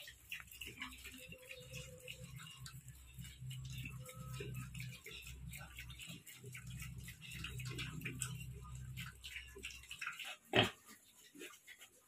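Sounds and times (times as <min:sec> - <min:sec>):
low steady hum: 0:00.0 - 0:10.0
piglets eating from trough: 0:00.0 - 0:12.0.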